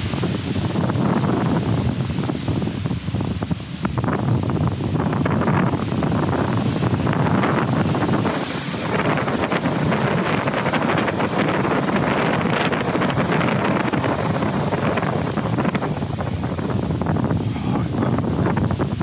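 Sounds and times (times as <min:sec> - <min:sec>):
heavy surf breaking on beach: 0:00.0 - 0:19.0
wind buffeting microphone: 0:00.0 - 0:19.0.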